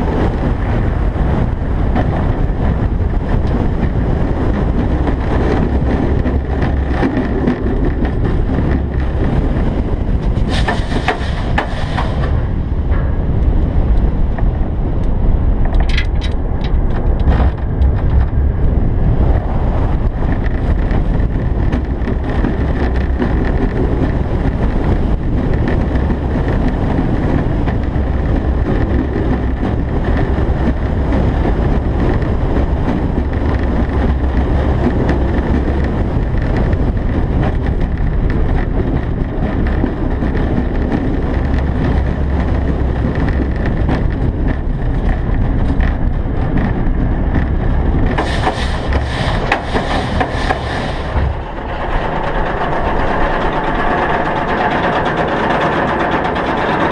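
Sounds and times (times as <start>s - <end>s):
roller coaster train rumbling on track: 0.0s - 56.9s
wind rushing over microphone: 0.0s - 56.9s.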